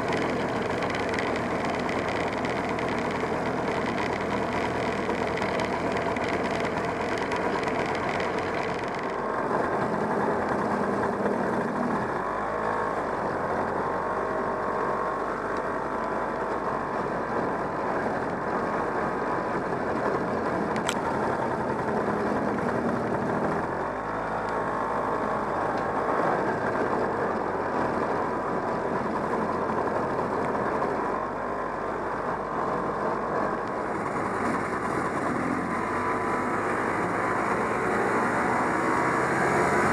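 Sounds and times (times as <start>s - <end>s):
snowmobile two-stroke engine running: 0.0s - 39.9s.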